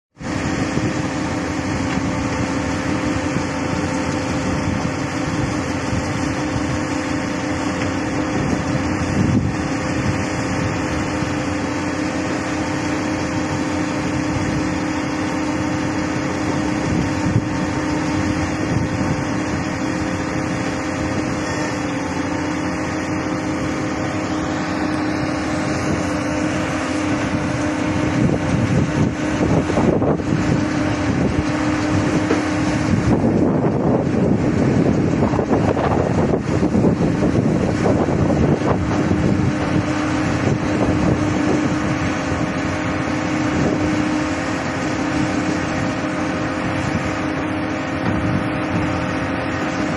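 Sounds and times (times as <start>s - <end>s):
excavator engine droning: 0.1s - 49.9s.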